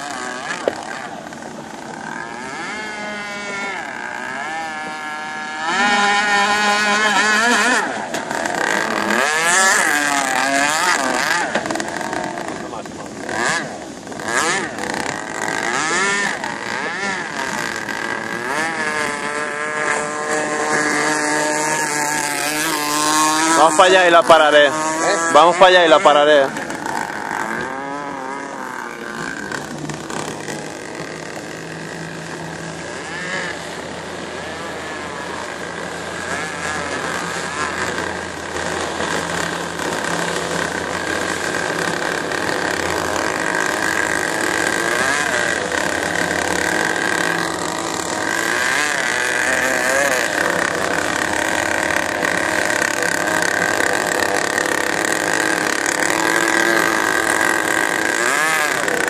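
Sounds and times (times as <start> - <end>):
motorboat engine running: 0.0 - 59.0
wavering high whine: 0.0 - 59.0.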